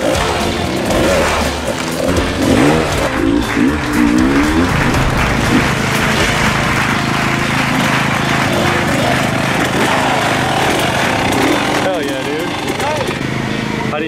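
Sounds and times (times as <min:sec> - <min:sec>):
crowd clapping and cheering: 0:00.0 - 0:13.0
dirt bike engine running: 0:00.0 - 0:14.0.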